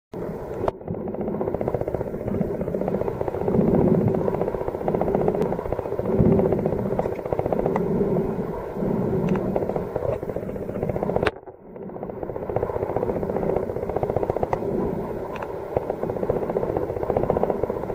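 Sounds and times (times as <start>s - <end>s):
motor buzzing underwater: 0.2s - 17.9s.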